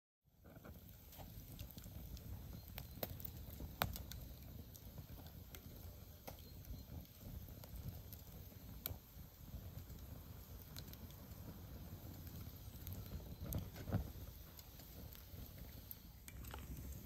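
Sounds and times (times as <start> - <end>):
wood fire crackling: 0.3 - 17.0.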